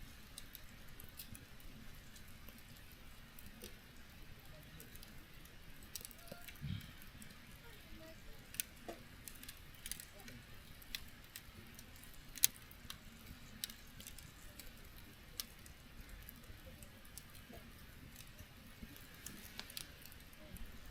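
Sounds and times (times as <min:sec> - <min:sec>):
campfire crackling: 0:00.0 - 0:20.9.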